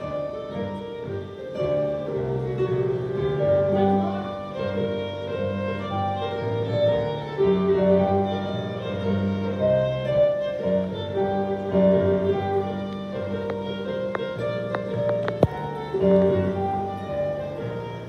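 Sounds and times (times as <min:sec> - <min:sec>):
electronic keyboard melody: 0:00.0 - 0:18.0
harp: 0:00.0 - 0:18.0.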